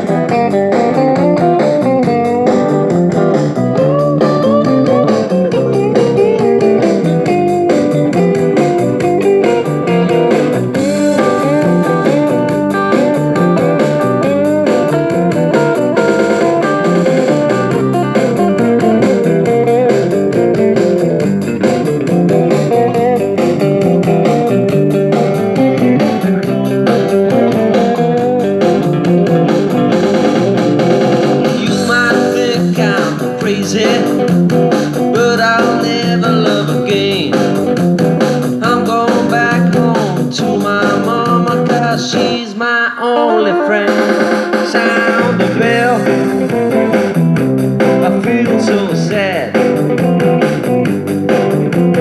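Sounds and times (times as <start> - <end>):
lead guitar with bent notes: 0.0 - 52.0
live blues band: 0.0 - 52.0.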